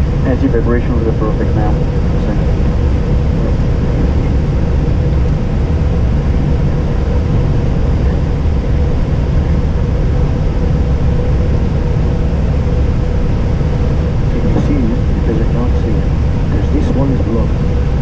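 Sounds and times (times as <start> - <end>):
airliner engines low rumble: 0.0 - 18.0
faint steady hum: 0.0 - 18.0.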